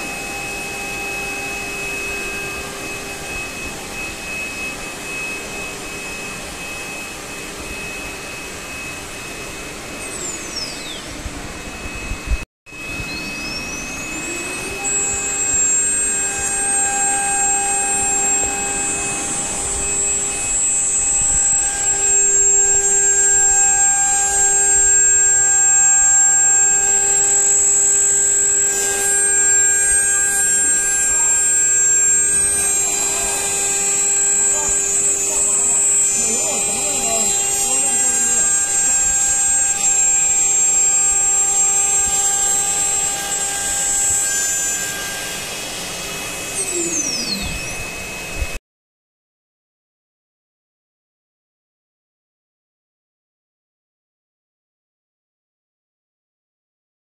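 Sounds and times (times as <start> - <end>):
spindle motor whine: 0.0 - 48.6.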